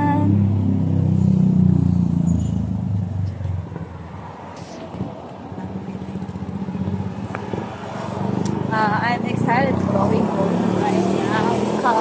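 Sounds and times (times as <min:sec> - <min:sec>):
traffic noise: 0:00.0 - 0:12.0
vehicle engine passing by: 0:00.0 - 0:12.0.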